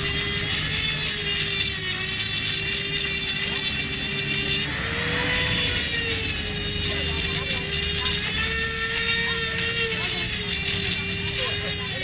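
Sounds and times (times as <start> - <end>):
workshop machine motor whining: 0.0 - 12.0.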